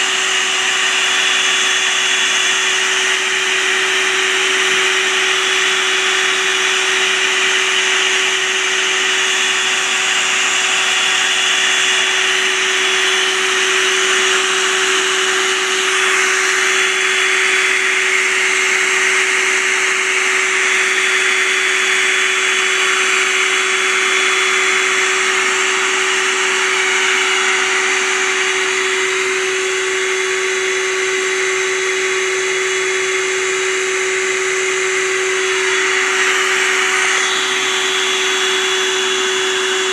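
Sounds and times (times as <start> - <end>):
vacuum motor running: 0.0 - 39.9.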